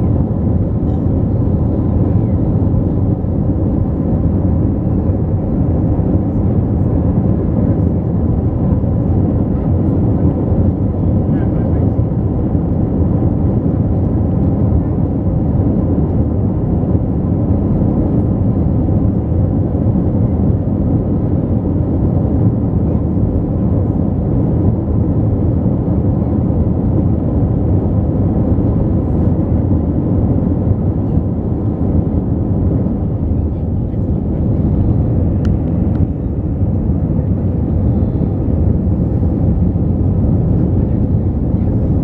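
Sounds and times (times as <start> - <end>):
jet airliner cabin noise: 0.0 - 42.0.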